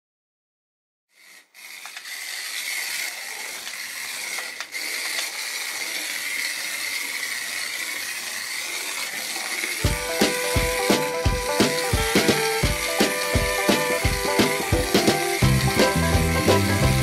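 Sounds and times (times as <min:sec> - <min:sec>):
toy motor whirring: 0:01.1 - 0:17.0.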